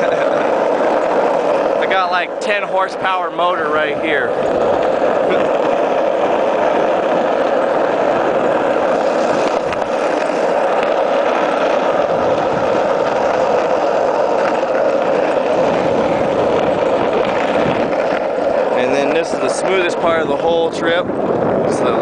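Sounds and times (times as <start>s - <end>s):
skateboard wheels rolling on asphalt: 0.0s - 22.0s.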